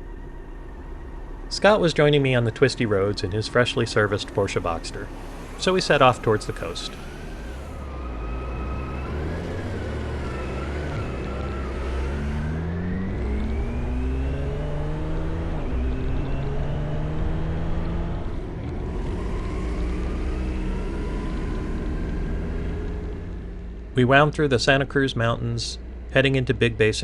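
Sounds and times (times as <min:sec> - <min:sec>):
wavering siren: 0:00.0 - 0:25.4
vehicle engine accelerating: 0:00.0 - 0:27.0.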